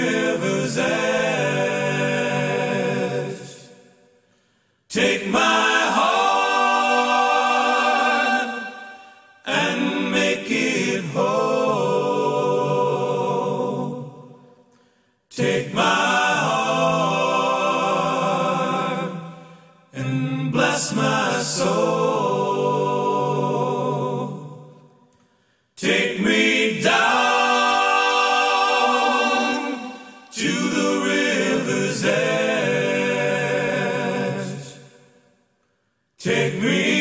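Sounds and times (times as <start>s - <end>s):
voices singing in harmony: 0.0s - 35.4s, 36.2s - 37.0s.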